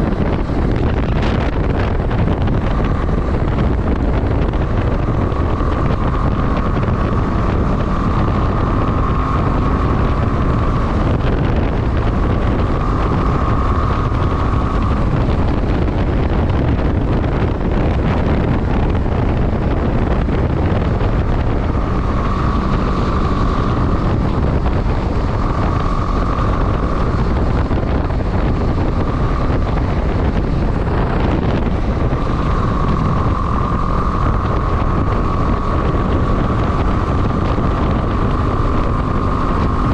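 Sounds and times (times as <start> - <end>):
high whine: 0.0 - 39.9
motorcycle engine rumble: 0.0 - 39.9
wind noise on microphone: 0.0 - 39.9.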